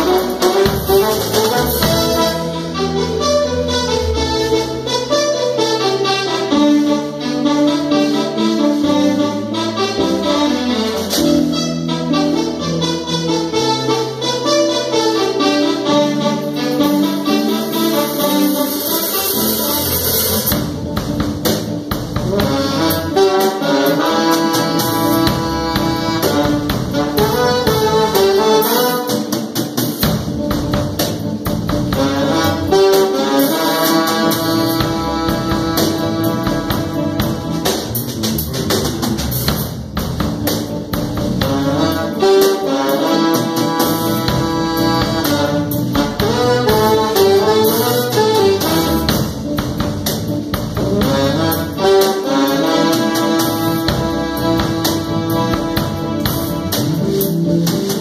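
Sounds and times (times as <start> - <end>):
busy percussion: 0.0 - 7.8, 8.7 - 58.0
jazz band playing: 0.0 - 58.0
trombone melody: 0.0 - 58.0.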